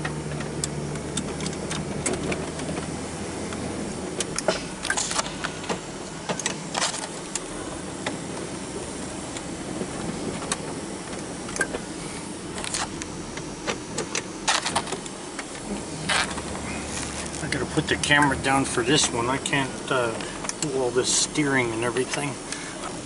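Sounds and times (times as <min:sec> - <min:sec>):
small tractor engine running: 0:00.0 - 0:23.0.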